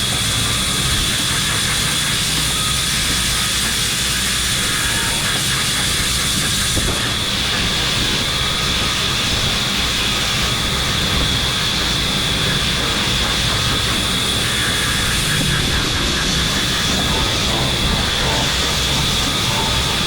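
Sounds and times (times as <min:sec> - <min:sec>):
workshop machinery running: 0:00.0 - 0:20.0.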